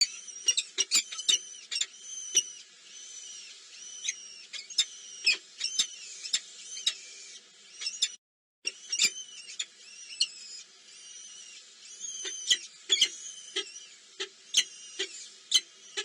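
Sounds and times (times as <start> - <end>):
high-pitched peeping: 0.0 - 16.0
small birds chirping: 0.0 - 16.0.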